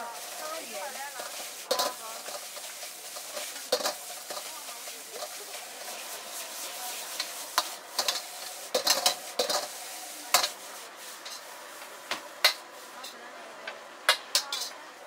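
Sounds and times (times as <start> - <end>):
rice sizzling in a wok: 0.0 - 15.0
ladle clanking against wok: 1.1 - 14.8.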